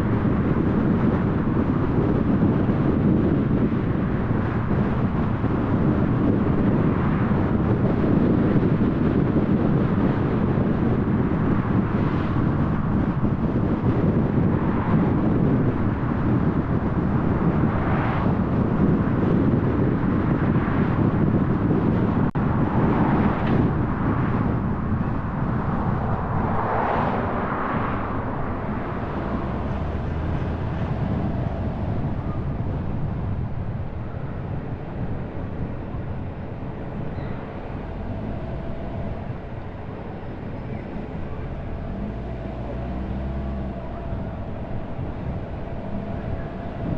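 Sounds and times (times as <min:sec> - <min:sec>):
car driving on road: 0:00.0 - 0:46.9.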